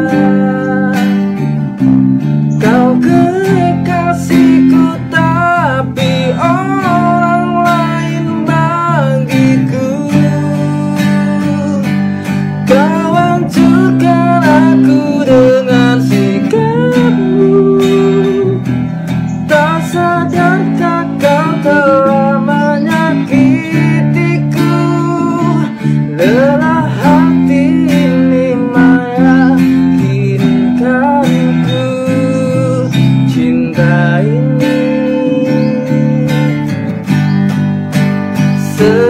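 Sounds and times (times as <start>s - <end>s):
man singing: 0.0s - 37.2s, 38.4s - 39.0s
electric bass guitar: 0.0s - 39.0s
strummed acoustic guitar: 0.0s - 39.0s.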